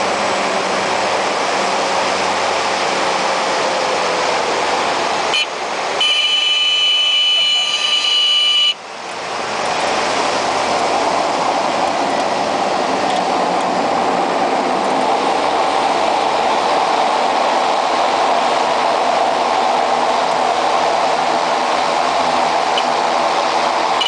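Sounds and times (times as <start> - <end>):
turboprop engine rushing: 0.0 - 24.0.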